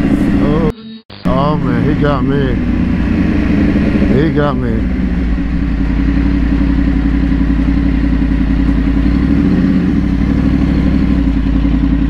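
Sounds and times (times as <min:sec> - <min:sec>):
motorcycle engine running: 0:00.0 - 0:00.7, 0:01.3 - 0:12.0.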